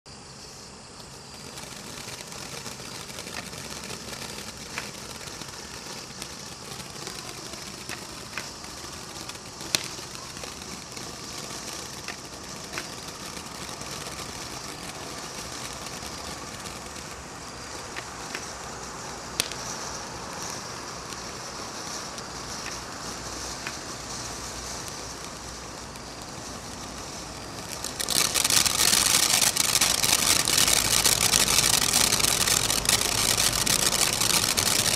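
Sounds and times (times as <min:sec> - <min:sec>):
firework crackles and pops: 0:00.1 - 0:34.9
firework fountain hissing: 0:00.1 - 0:34.9.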